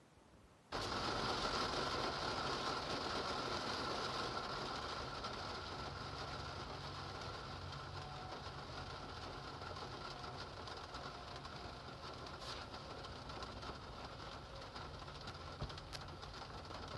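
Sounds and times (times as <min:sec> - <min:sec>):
heavy rain downpour: 0:00.7 - 0:16.9.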